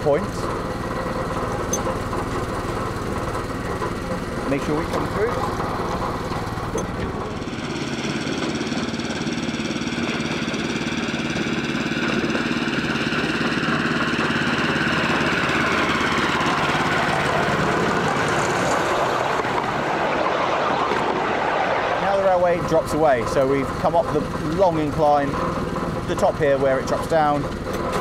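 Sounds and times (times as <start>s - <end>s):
engine whine: 0.0s - 28.0s
petrol engine running: 0.0s - 28.0s.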